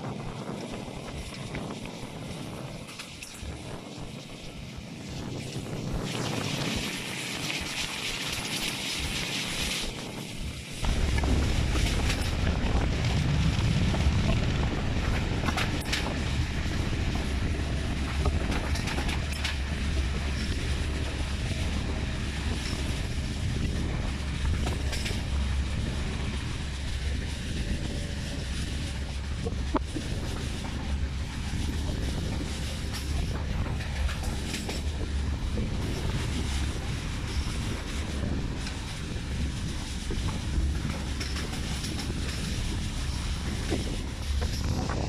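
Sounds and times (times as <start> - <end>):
train wheels rumbling on rail: 0.0 - 45.0
wind rushing over microphone: 0.0 - 45.0.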